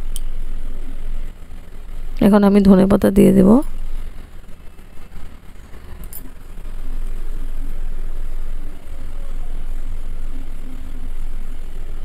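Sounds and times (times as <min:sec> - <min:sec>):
gas stove rumble: 0:00.0 - 0:12.0.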